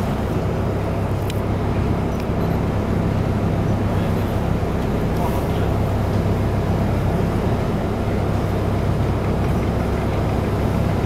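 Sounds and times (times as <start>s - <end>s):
boat engines droning: 0.0s - 11.0s
wind and water hiss: 0.0s - 11.0s.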